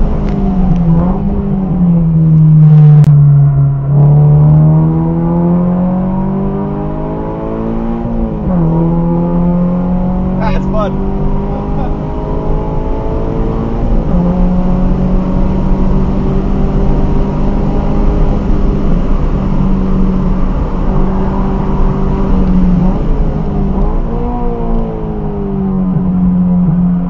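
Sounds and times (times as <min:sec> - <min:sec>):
car engine pulling hard: 0:00.0 - 0:27.0.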